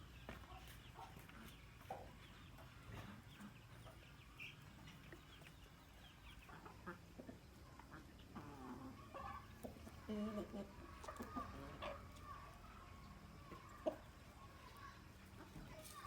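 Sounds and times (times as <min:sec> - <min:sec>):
chickens clucking faintly: 0:00.0 - 0:16.0.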